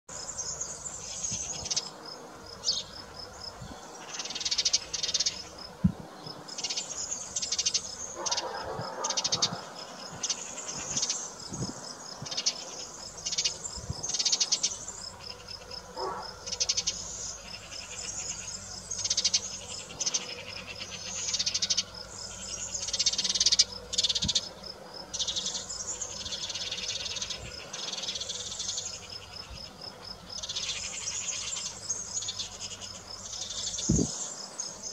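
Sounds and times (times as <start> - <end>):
insects buzzing raspily: 0.1 - 34.9.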